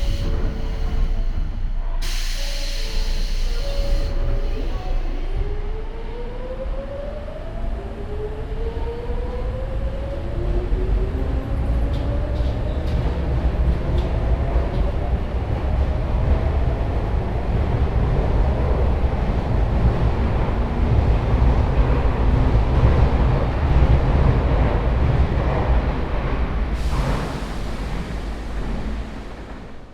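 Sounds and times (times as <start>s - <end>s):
train rumble and wheels on rail: 0.0s - 29.9s.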